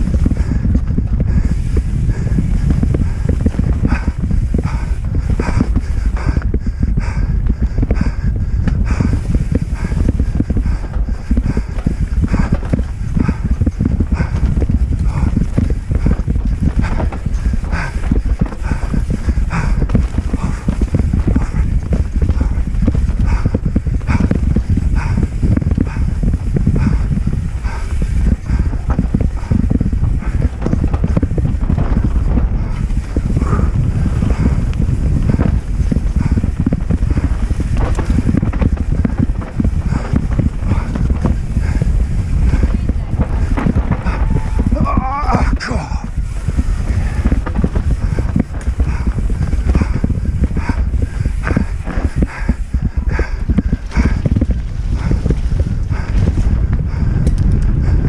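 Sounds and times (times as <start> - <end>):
mountain bike rattling: 0.0 - 58.0
steady low rumble: 0.0 - 58.0
wind buffeting microphone: 0.0 - 58.0.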